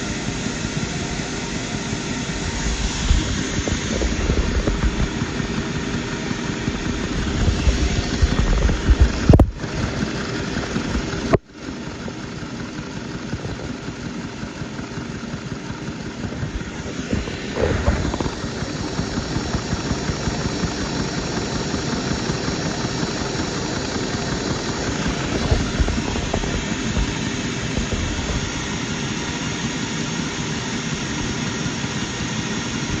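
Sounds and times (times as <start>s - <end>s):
small vacuum engine running: 0.0s - 33.0s.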